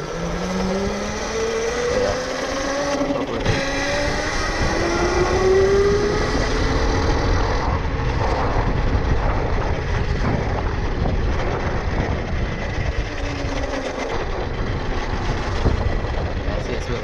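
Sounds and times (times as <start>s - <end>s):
low rushing riding noise: 0.0s - 17.0s.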